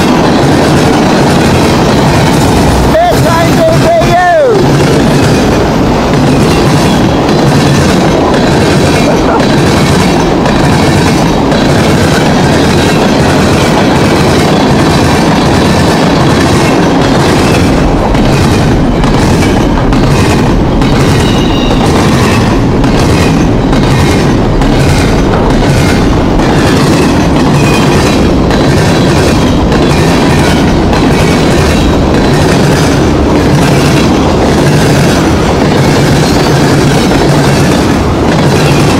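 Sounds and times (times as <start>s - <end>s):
train rumble: 0.0s - 38.9s
train wheels clickety-clack: 0.0s - 38.9s.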